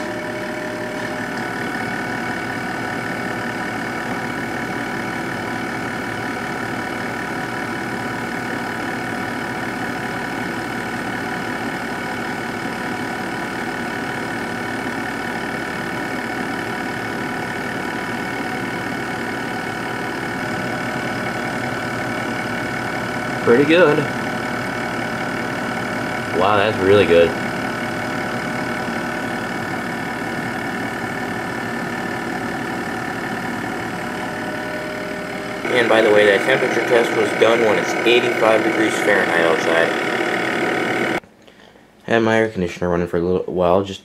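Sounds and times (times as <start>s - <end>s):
thin steady whine: 0.0s - 41.2s
air conditioner humming: 0.0s - 44.0s.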